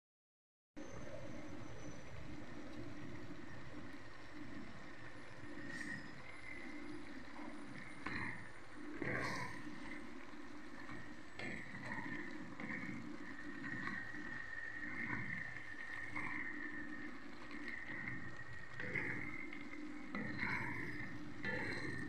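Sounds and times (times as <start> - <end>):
steady high-pitched hiss: 0.8 - 22.0.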